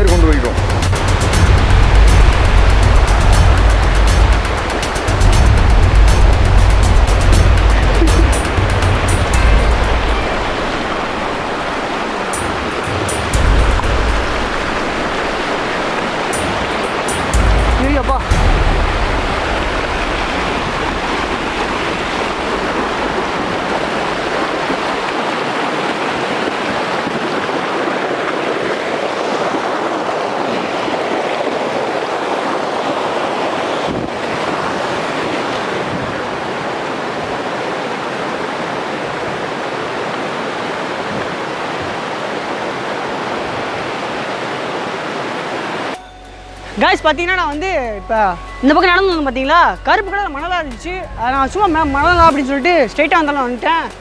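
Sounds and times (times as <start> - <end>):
wind rumbling on microphone: 0.0 - 45.9
waterfall rushing: 0.0 - 47.1.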